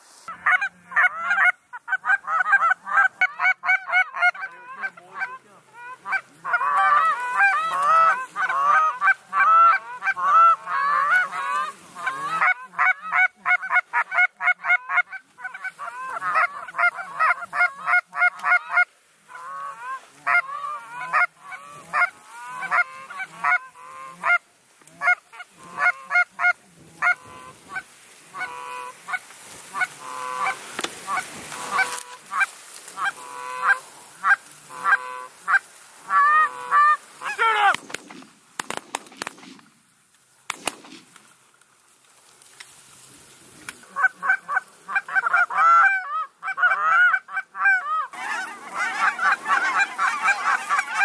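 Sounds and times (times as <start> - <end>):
geese honking: 0.0 - 39.7, 43.5 - 51.0.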